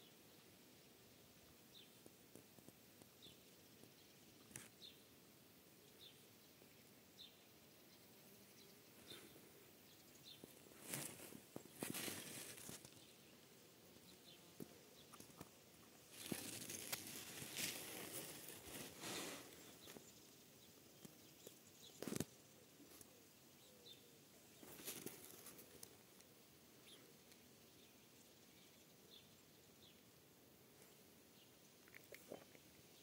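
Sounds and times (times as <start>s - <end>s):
faint rustling of leaves: 0.0s - 33.0s.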